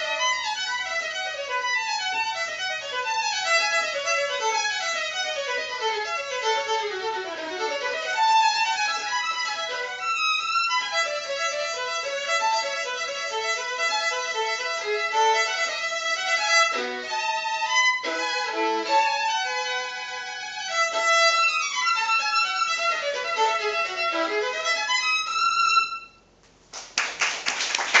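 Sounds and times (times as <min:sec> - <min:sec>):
solo violin playing fast runs: 0:00.0 - 0:26.2.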